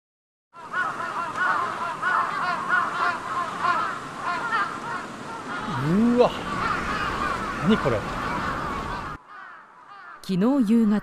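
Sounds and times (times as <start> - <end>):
crows cawing: 0.6 - 10.3.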